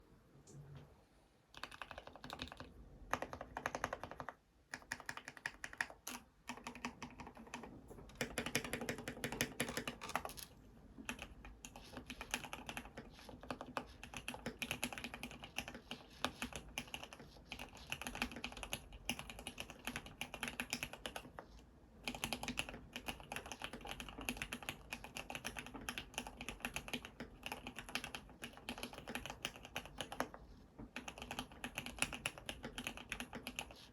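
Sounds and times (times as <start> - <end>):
mechanical keyboard typing: 1.5 - 21.4, 22.0 - 33.9.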